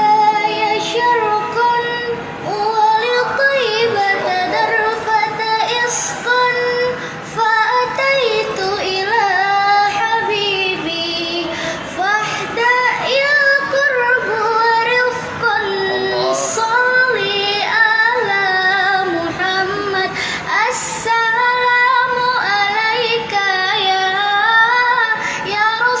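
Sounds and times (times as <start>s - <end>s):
high voice singing: 0.0s - 26.0s.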